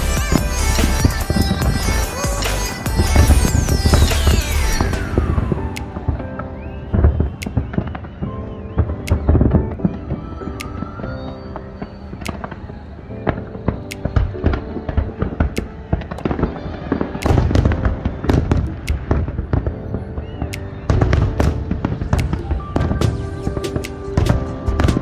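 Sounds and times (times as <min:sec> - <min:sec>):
background music: 0:00.0 - 0:25.0
fireworks bangs: 0:00.0 - 0:25.0.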